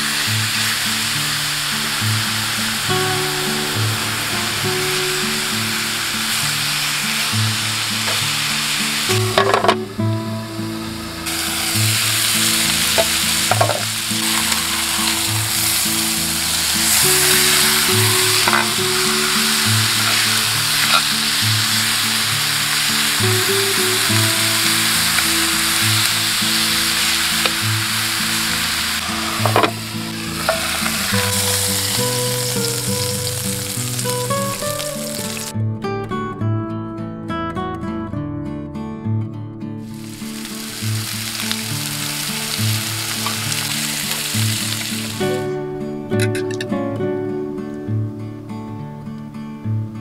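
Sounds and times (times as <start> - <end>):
steak sizzling in a hot pan: 0.0 - 35.5, 39.9 - 45.5
guitar music: 0.0 - 50.0.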